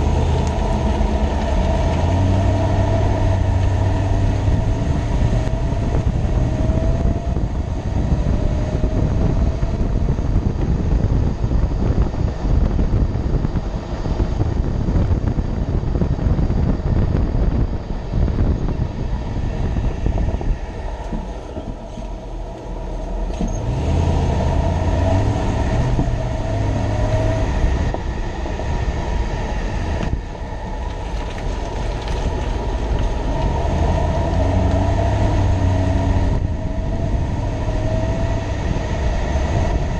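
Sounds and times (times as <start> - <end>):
faint wavering whine: 0.0 - 39.9
truck engine and road rumble: 0.0 - 39.9.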